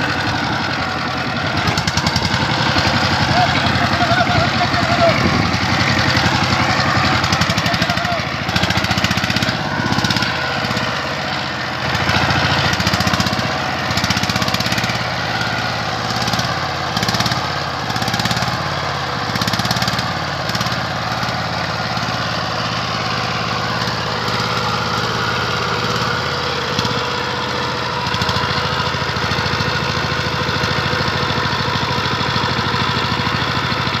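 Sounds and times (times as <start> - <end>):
diesel engine under heavy load: 0.0 - 34.0.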